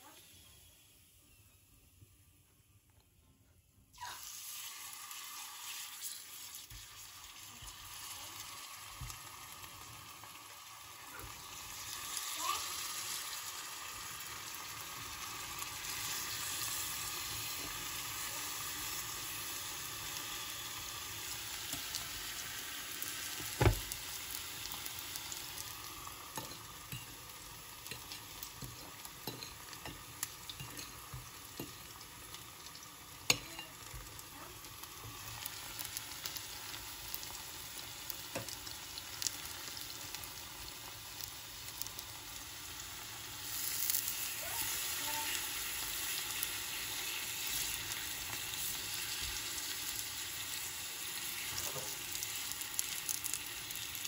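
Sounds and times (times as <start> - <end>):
bananas sizzling in oil: 3.9 - 54.0.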